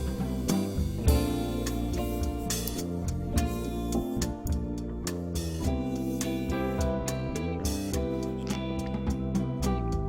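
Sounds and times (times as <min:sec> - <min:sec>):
guitar instrumental with drums: 0:00.0 - 0:10.0.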